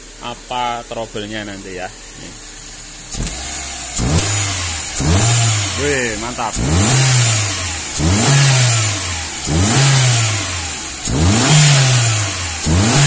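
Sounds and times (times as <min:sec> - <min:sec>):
car engine revving: 0:01.4 - 0:13.0.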